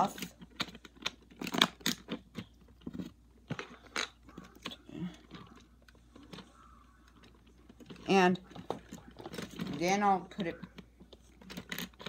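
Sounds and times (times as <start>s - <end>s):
plastic bricks clicking: 0.0s - 12.0s.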